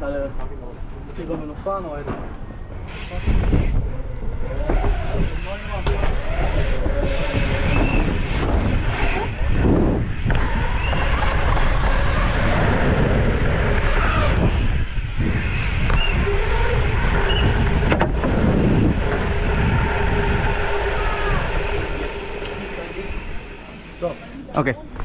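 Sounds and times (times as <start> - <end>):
wind rushing across microphone: 2.8 - 24.0.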